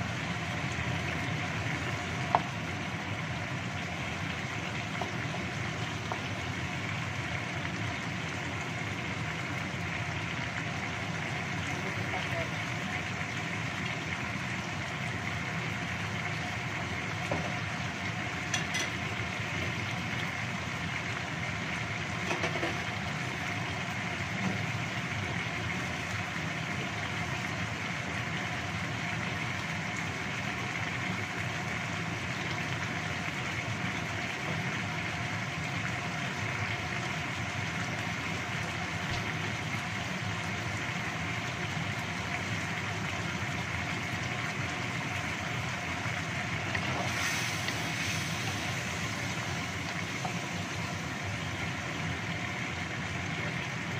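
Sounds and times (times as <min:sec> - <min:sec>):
sauce bubbling and hissing in a wok: 0:00.0 - 0:53.9.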